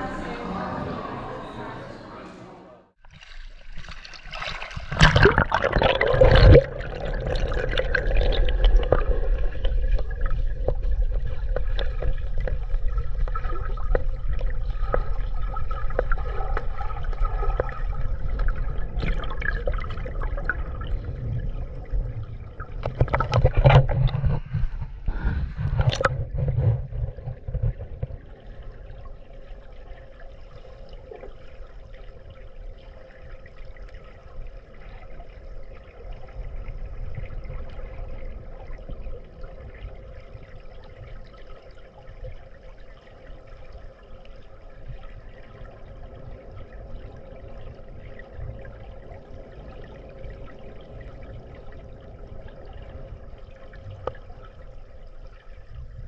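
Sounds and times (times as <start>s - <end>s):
muffled underwater water noise: 0.0s - 56.0s
water churning: 3.0s - 56.0s.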